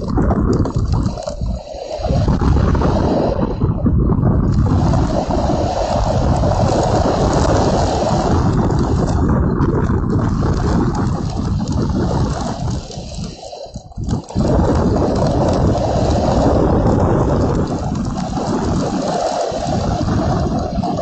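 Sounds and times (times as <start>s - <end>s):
heavy rain: 0.0s - 21.0s
storm wind buffeting microphone: 0.0s - 21.0s.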